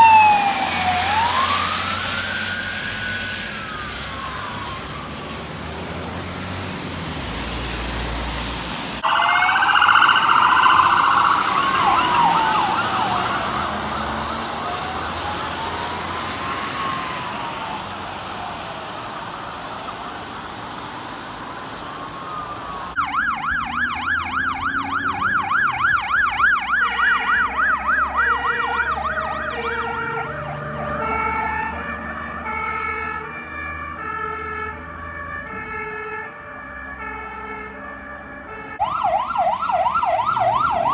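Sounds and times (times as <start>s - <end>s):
emergency vehicle sirens: 0.0s - 40.9s
traffic noise: 0.0s - 40.9s.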